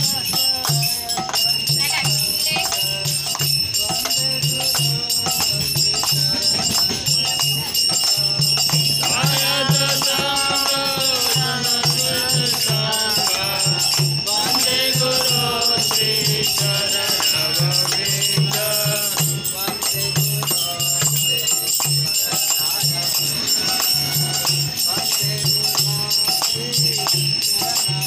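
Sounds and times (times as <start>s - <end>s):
hand cymbals jingling: 0.0s - 28.0s
men singing a chant: 0.0s - 28.0s.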